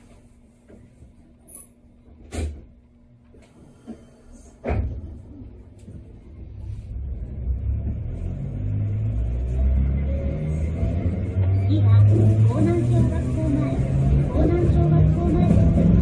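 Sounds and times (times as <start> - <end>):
tram running rumble: 0.0 - 16.0.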